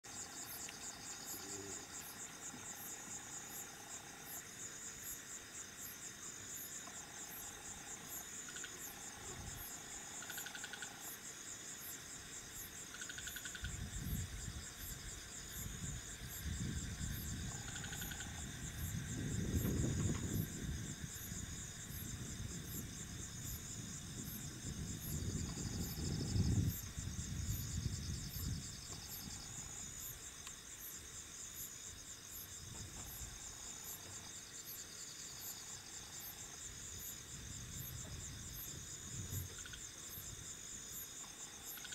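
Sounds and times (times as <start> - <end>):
crickets chirping: 0.0 - 41.9
insect trills: 0.0 - 41.9.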